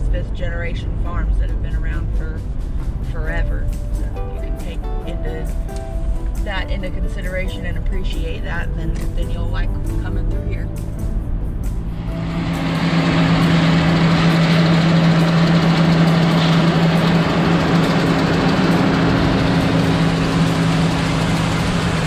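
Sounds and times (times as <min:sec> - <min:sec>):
car engine drone: 0:00.0 - 0:22.0
road and wind noise: 0:00.0 - 0:22.0.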